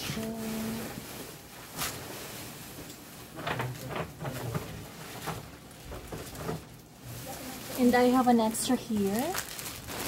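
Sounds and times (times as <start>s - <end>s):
bags rustling: 0.0s - 10.0s.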